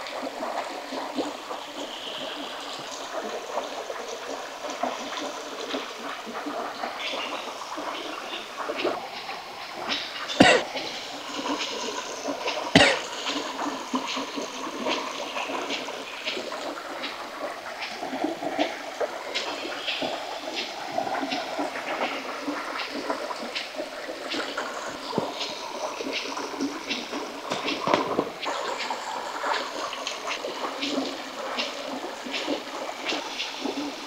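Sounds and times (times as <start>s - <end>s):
shallow stream running: 0.0s - 34.0s.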